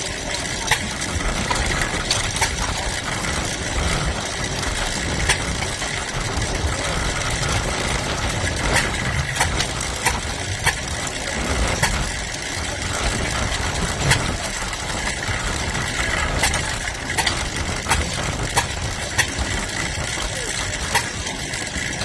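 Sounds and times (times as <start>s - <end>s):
old engine running: 0.0s - 22.0s.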